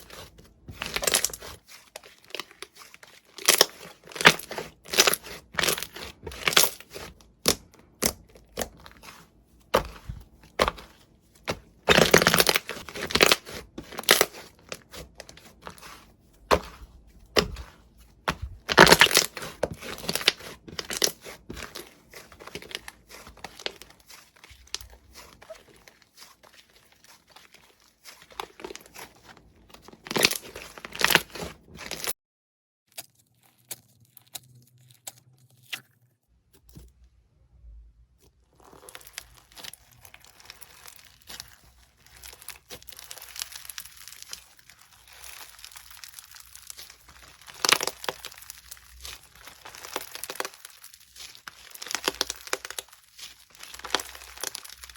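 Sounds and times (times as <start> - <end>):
crunchy slime crackling: 0.0 - 32.1, 32.9 - 35.9, 38.2 - 54.9.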